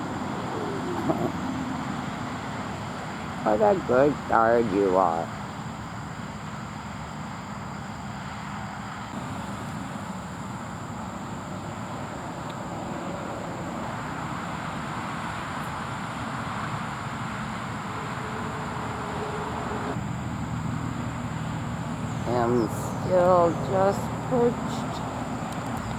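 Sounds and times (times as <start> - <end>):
road traffic rumble: 0.0 - 25.9.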